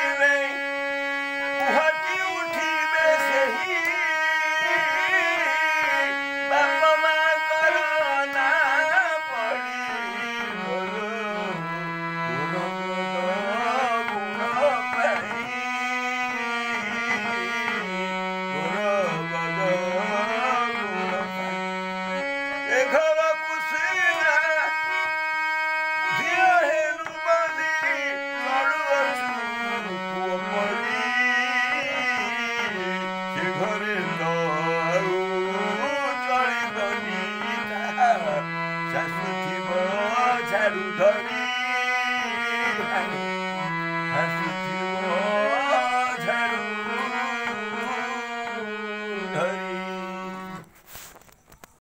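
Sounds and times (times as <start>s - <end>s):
harmonium sustained notes: 0.0s - 51.6s
man singing folk song: 1.6s - 15.5s, 18.5s - 21.4s, 22.7s - 25.0s, 26.0s - 50.2s.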